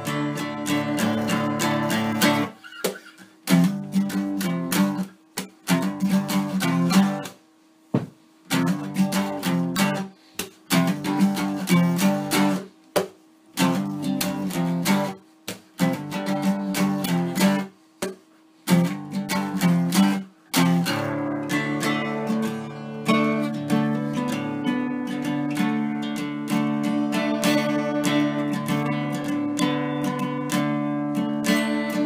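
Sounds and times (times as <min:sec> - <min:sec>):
acoustic guitar strummed chords: 0:00.0 - 0:32.0.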